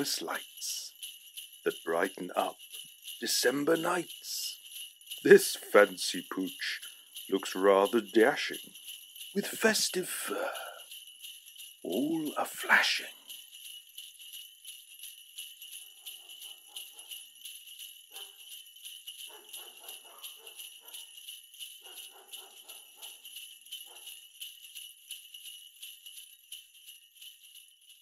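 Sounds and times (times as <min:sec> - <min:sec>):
sleigh bells jingling: 0:00.0 - 0:28.0.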